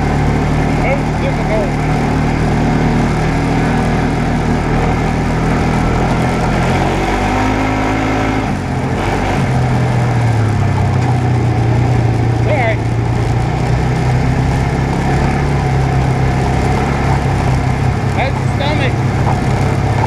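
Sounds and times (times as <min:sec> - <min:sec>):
off-road vehicle engine: 0:00.0 - 0:20.0.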